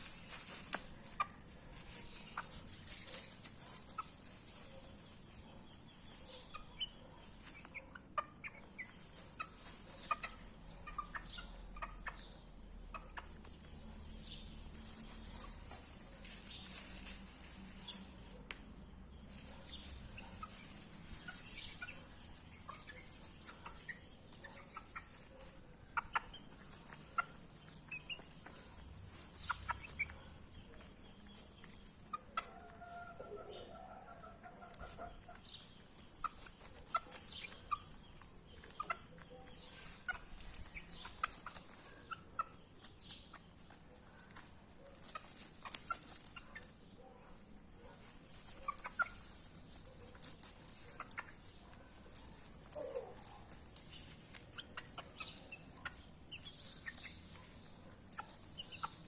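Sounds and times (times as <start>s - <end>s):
chicks peeping and cheeping: 0.0s - 59.0s.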